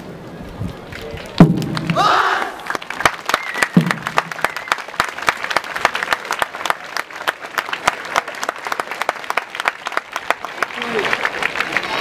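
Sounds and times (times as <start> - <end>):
audience applauding: 0.9 - 12.0.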